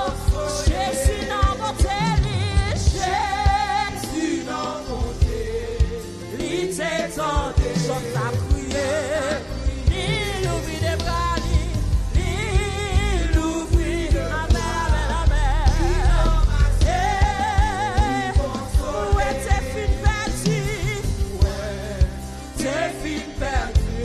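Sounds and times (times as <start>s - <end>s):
woman singing into microphone: 0.0s - 5.5s, 6.5s - 22.1s
live band with drums and bass: 0.0s - 24.0s.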